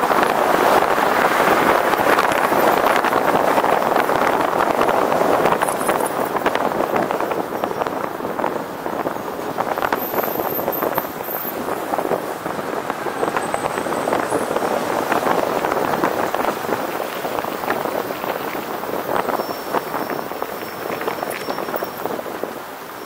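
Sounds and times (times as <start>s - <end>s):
road noise: 0.0s - 23.0s
wind rushing over microphone: 0.0s - 23.0s.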